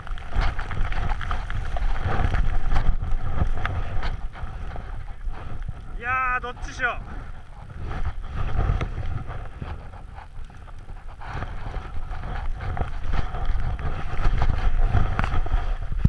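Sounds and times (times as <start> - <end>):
wind rumbling over microphone: 0.0 - 16.0.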